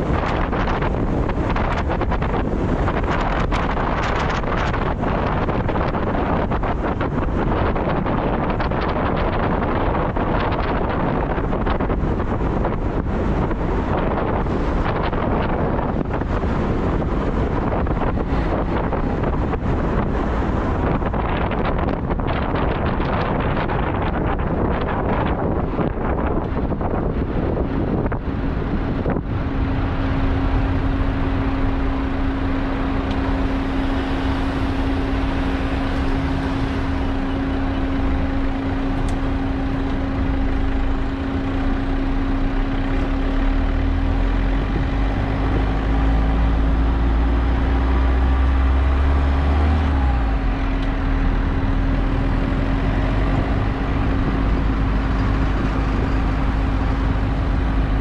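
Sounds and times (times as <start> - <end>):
low rumble: 0.0 - 58.0
tyre and road noise: 0.0 - 58.0.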